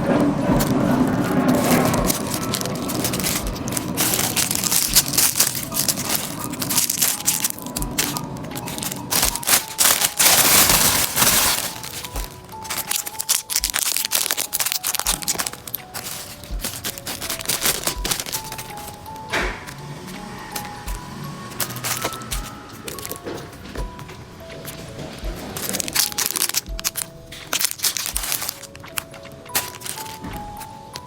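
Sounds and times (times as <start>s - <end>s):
plastic packaging crinkling: 0.0s - 31.0s
soft background music: 0.0s - 31.0s.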